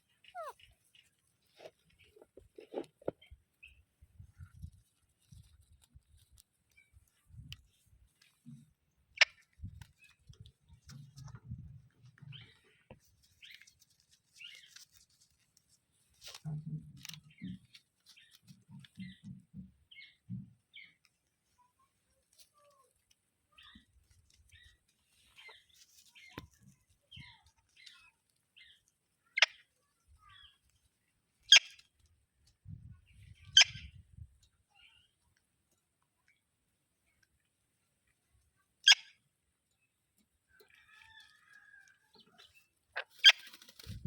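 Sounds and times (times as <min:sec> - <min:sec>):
parrots chirping softly: 0:00.0 - 0:34.0, 0:38.1 - 0:44.0.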